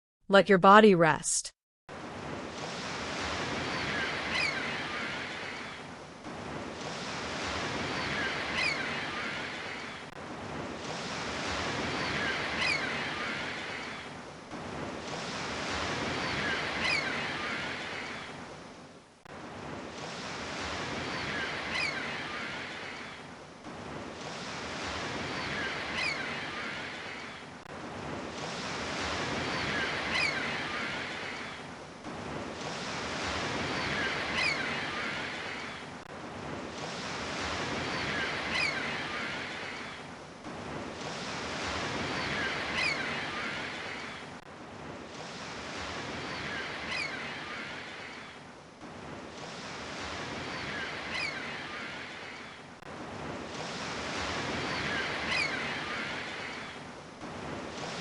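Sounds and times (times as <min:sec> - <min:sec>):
ocean waves washing onto shore: 0:01.9 - 0:58.0.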